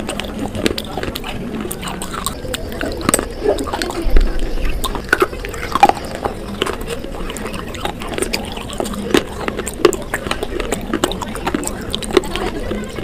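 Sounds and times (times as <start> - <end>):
crunching clay pot pieces: 0.0 - 13.0
wet mouth sounds: 0.0 - 13.0.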